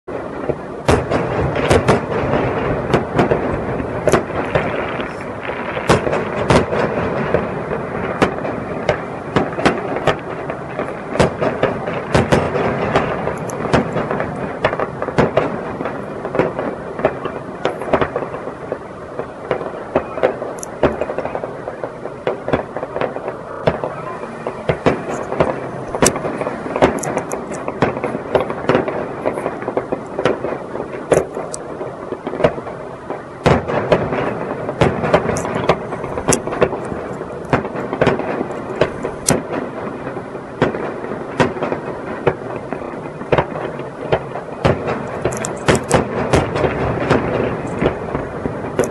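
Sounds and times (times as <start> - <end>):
fireworks bursting: 0.0 - 48.9.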